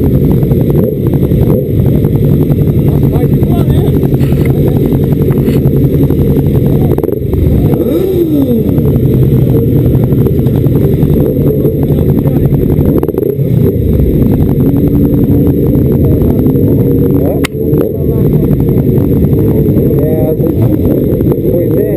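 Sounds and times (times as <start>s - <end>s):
motorcycle engine running: 0.0s - 21.9s
wind rush on microphone: 0.0s - 21.9s.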